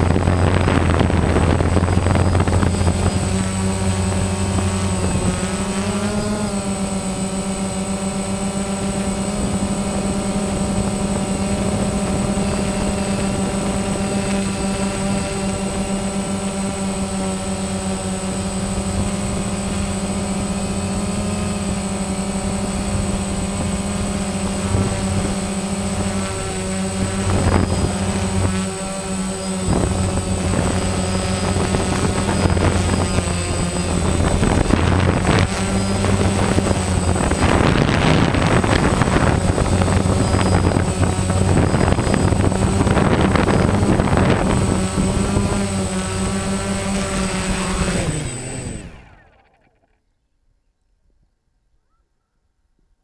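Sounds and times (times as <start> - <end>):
drone propellers whirring: 0.0 - 50.0.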